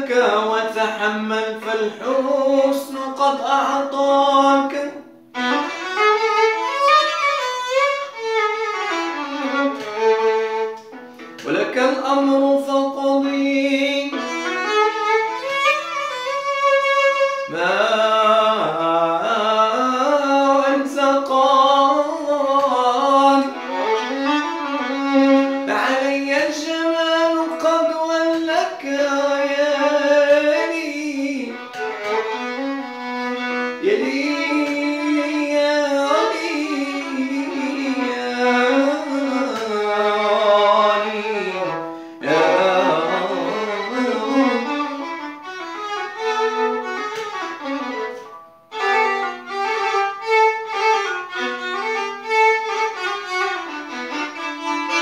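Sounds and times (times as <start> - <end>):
violin melody: 0.0 - 55.0.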